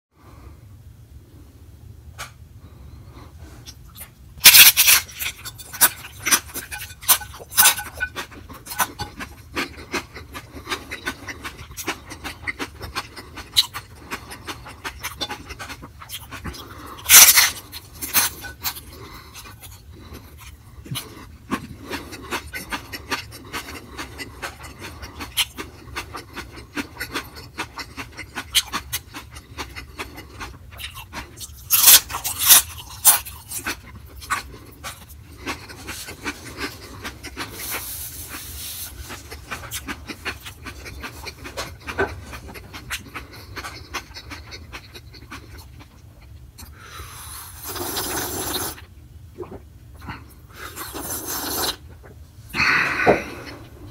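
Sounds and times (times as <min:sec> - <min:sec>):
man chewing crunchy food: 0:02.2 - 0:53.9.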